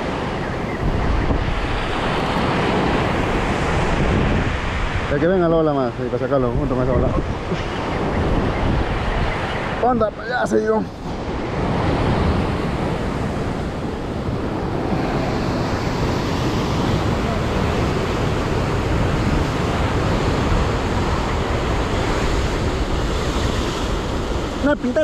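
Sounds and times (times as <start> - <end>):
sea surf on rocks: 0.0 - 25.0
wind buffeting microphone: 0.0 - 25.0.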